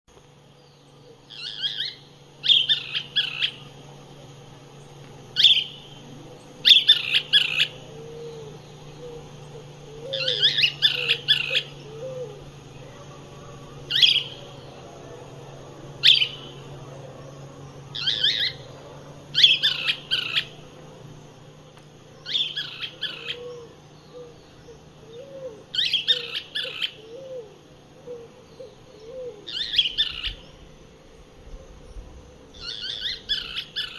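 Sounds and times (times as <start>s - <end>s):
birds chattering calls: 0.2s - 33.9s
faint low hooting: 0.2s - 33.9s.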